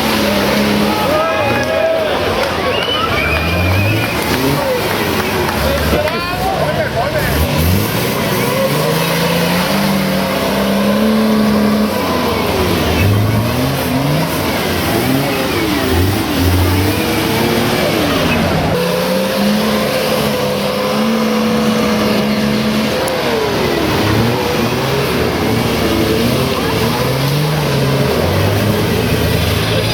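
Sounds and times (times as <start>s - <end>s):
engine revving under load: 0.0s - 29.9s.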